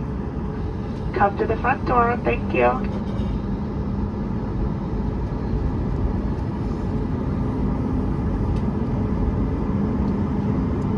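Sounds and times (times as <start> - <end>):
airliner cabin rumble and hum: 0.0 - 10.9.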